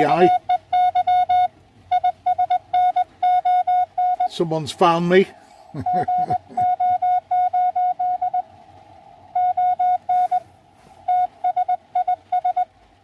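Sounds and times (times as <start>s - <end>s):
morse code beeps: 0.0s - 4.6s, 5.8s - 8.5s, 9.4s - 12.7s.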